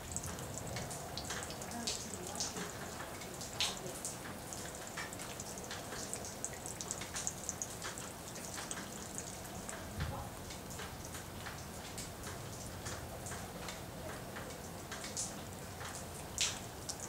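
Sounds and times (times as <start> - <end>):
raindrops ticking: 0.0 - 17.0
soft rain hiss: 0.0 - 17.0.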